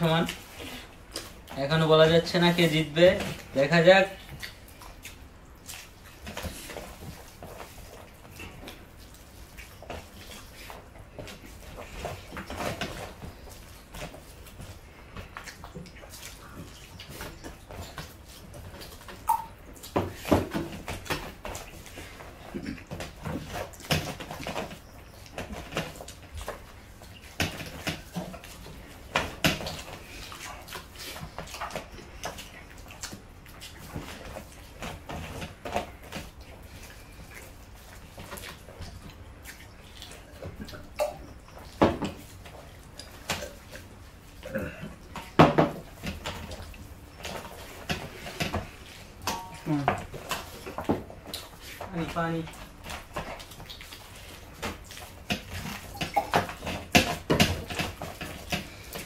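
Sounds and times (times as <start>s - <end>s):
wet chewing and smacking: 0.0s - 59.0s.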